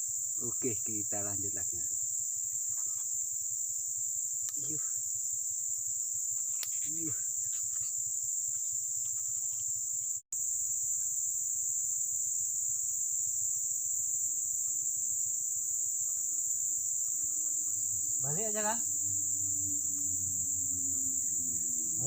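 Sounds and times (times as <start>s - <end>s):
insects shrilling: 0.0s - 22.0s.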